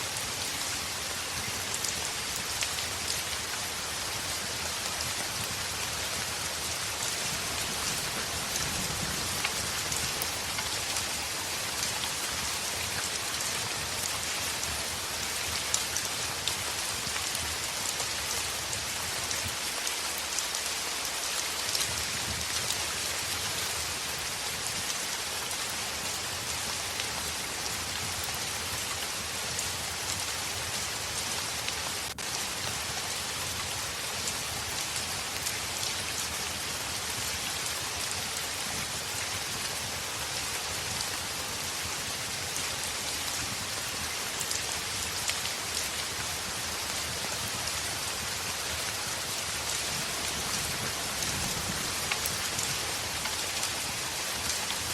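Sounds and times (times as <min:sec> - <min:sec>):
heavy rain on a window: 0:00.0 - 0:54.9
light ticks of raindrops: 0:00.0 - 0:54.9.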